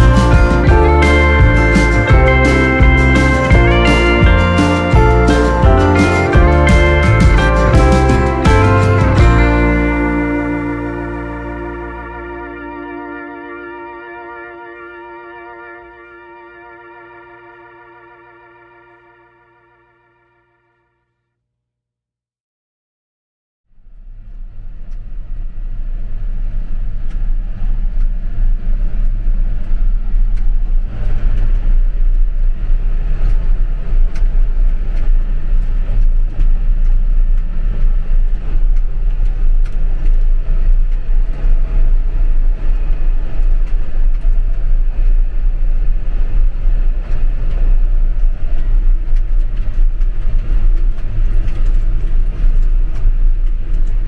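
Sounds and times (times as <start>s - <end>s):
diesel engine drone: 0.0s - 19.8s, 24.4s - 54.0s.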